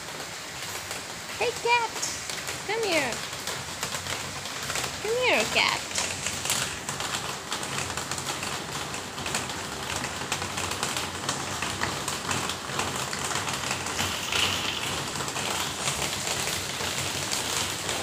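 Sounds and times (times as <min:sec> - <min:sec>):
rain drops pattering: 0:00.0 - 0:18.0.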